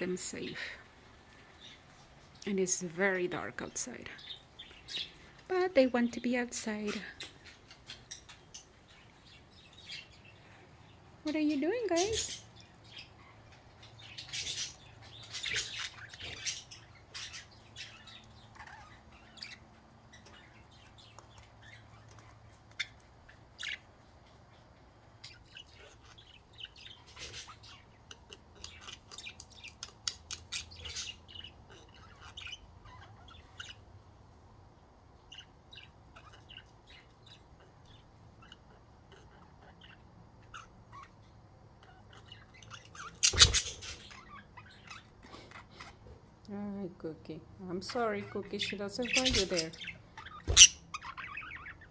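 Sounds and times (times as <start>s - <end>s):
budgerigars chirping: 2.7s - 34.0s, 35.2s - 46.0s, 47.8s - 51.9s.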